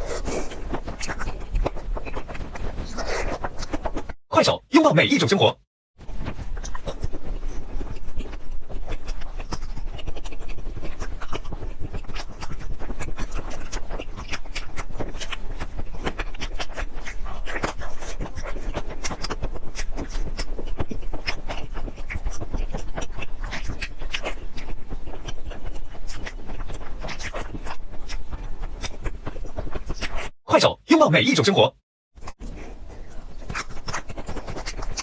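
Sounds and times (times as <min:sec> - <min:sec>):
person chewing and smacking food: 0:00.1 - 0:04.0, 0:06.6 - 0:30.3, 0:33.0 - 0:35.0.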